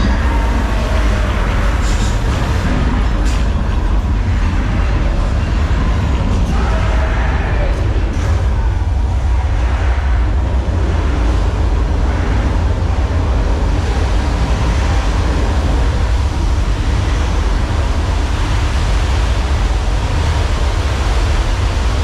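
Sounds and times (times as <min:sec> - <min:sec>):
loud steady rumble: 0:00.0 - 0:22.0
rushing noise: 0:00.0 - 0:22.0.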